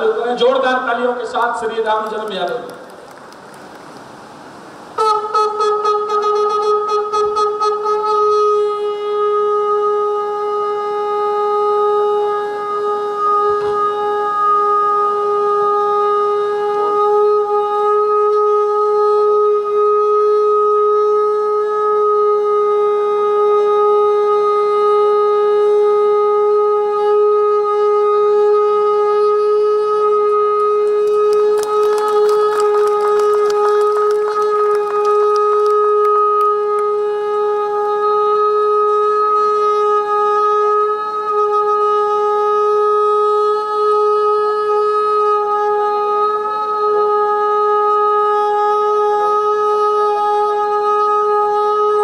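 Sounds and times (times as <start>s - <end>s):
conch blown long note: 5.0s - 52.0s.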